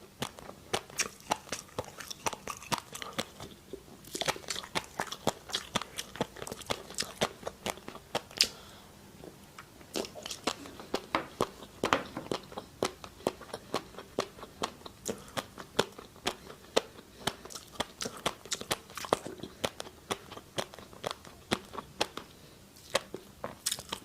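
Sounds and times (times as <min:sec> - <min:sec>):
person chewing crunchy food: 0:00.0 - 0:24.0.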